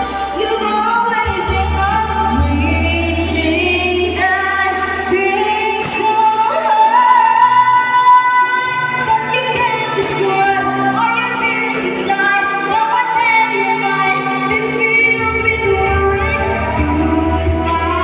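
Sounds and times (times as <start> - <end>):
girl singing into a microphone: 0.0 - 18.0
instrumental backing music: 0.0 - 18.0.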